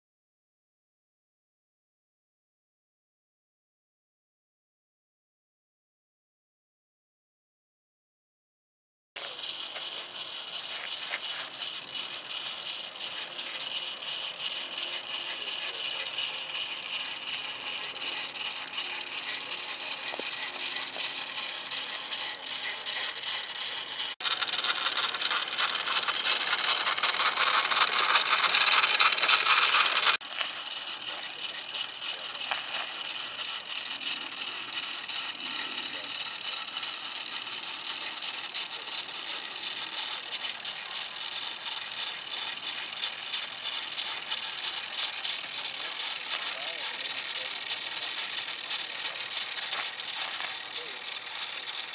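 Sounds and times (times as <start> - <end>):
model steam engine metallic clatter: 9.2 - 51.9.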